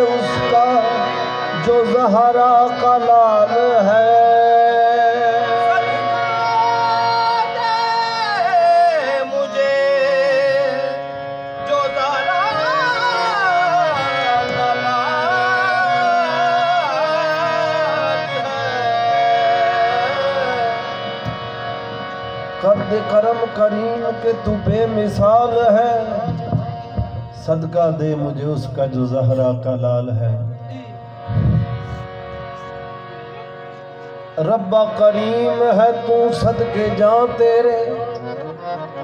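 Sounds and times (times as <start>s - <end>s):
harmoniums: 0.0s - 39.0s.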